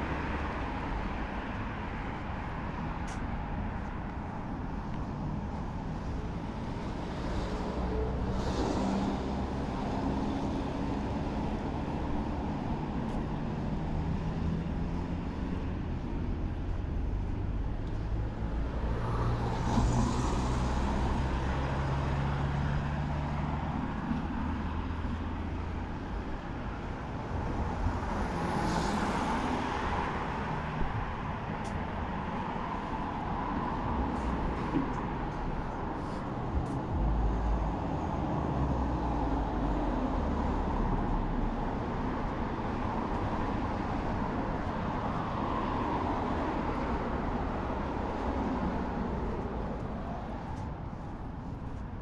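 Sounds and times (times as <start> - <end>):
rushes of traffic noise: 0.0 - 52.0.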